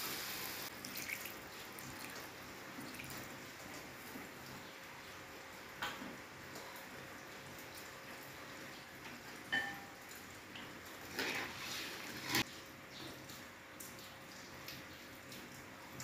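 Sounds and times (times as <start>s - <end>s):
broth simmering in a wok: 0.0s - 16.0s.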